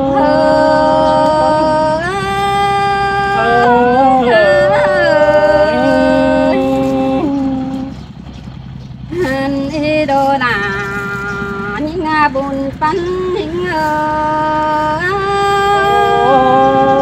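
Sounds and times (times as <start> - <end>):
person singing long sliding notes: 0.0 - 8.0, 9.1 - 17.0
steady low hum: 0.0 - 17.0.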